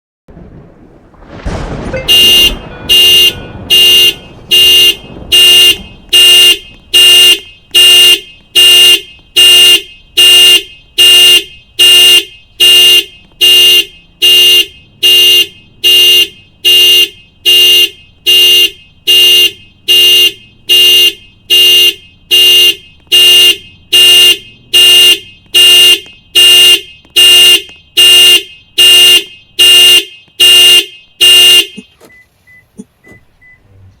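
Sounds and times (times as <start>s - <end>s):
car horn panic alarm honks: 1.8s - 33.7s.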